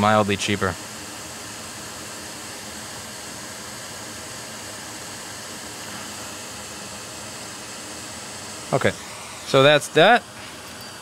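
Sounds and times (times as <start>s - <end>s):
steady air hiss: 0.0s - 11.0s.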